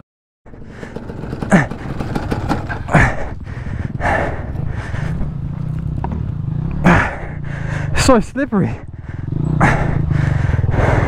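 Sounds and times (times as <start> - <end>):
person breathing heavily: 0.5 - 5.8, 6.7 - 11.0
dirt bike engine idling: 0.5 - 11.0.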